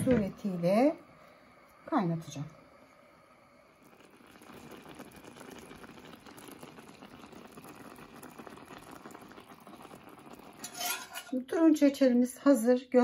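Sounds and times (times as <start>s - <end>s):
syrup boiling with crackling bubbles: 0.0s - 13.0s.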